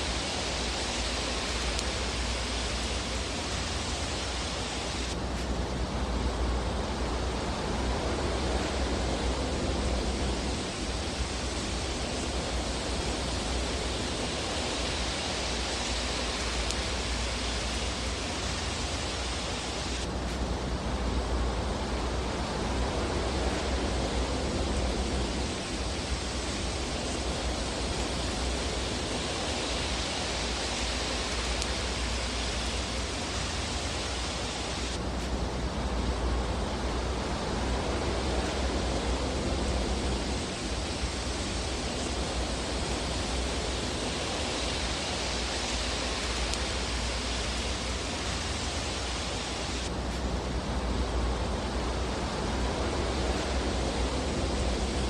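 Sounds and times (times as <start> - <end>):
fireplace fire hissing: 0.0 - 55.0.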